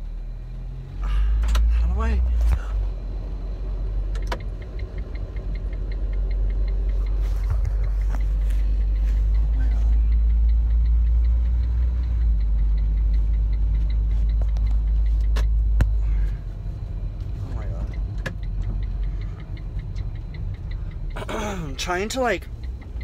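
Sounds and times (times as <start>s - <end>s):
vehicle engine rumbling: 0.0s - 23.0s
quick even ticking: 3.0s - 23.0s.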